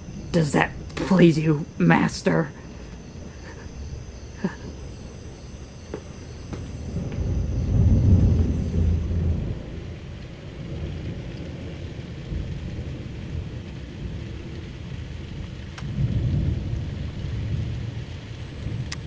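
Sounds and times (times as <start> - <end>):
rain falling: 0.0 - 19.0
thunder rolling: 0.0 - 19.0.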